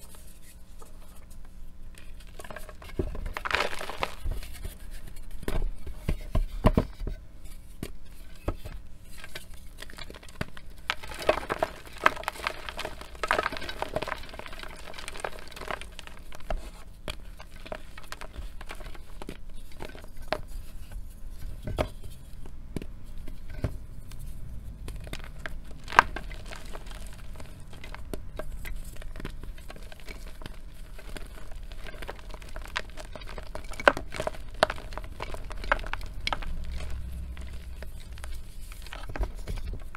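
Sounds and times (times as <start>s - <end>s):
chalk crunching and crumbling: 0.0s - 39.9s.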